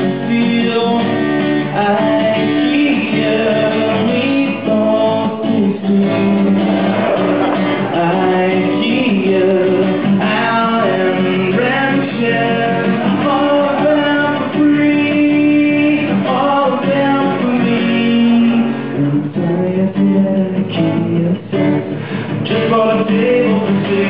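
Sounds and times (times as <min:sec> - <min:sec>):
guitar strumming: 0:00.0 - 0:24.0
person singing: 0:00.0 - 0:24.0.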